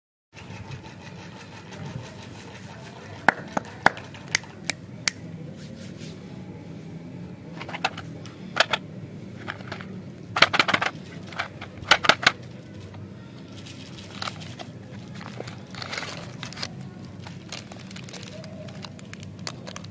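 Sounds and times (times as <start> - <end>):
low steady hum: 0.4 - 19.9.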